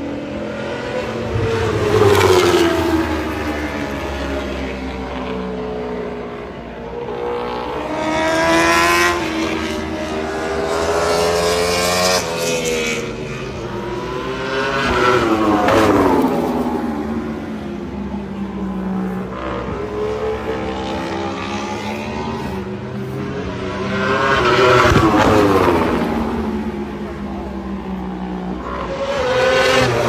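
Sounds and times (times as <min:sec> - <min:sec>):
racing motorcycles passing: 0:00.0 - 0:30.0.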